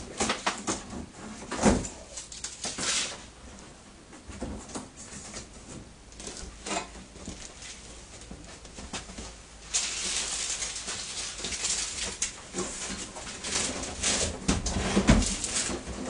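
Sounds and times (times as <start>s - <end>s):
scraping and knocks on metal frame: 0.0s - 16.0s.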